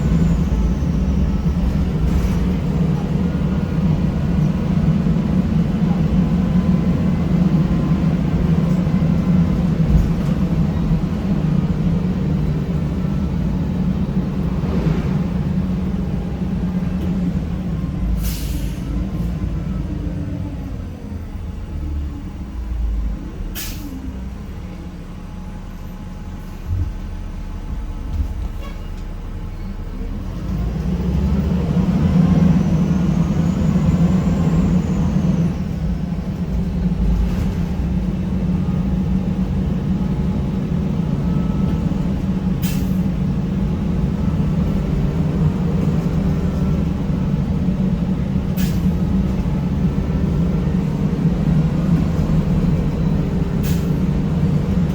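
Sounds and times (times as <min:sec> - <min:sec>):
bus engine whining and droning: 0:00.0 - 0:54.9.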